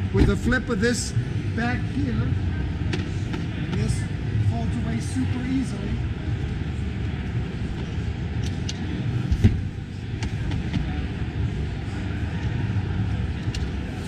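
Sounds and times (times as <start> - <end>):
exhibition hall rumble: 0.0 - 14.0.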